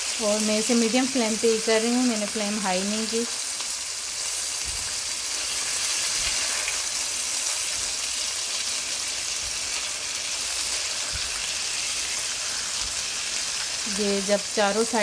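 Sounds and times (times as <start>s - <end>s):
meat sizzling in oil: 0.0s - 15.0s.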